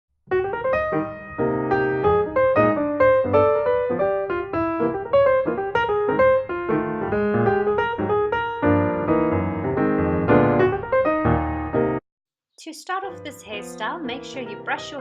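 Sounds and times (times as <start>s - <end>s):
piano music: 0.3s - 12.0s, 12.9s - 15.0s.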